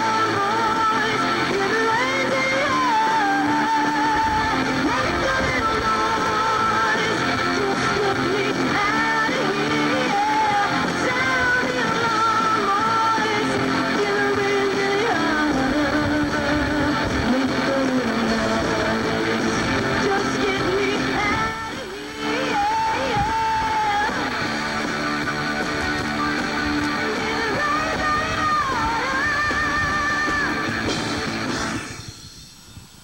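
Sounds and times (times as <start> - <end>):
person singing: 0.0 - 30.9
electric guitars: 0.0 - 33.0.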